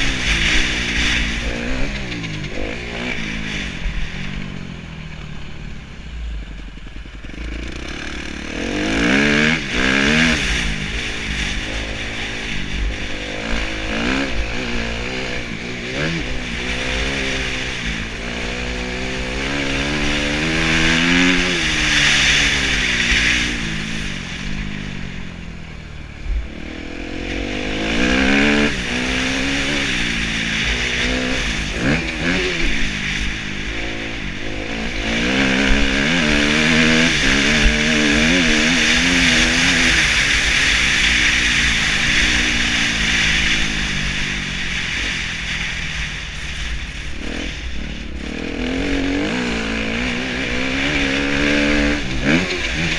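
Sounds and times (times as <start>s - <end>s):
motocross engine revving: 0.0s - 5.6s, 6.8s - 25.3s, 26.0s - 52.9s.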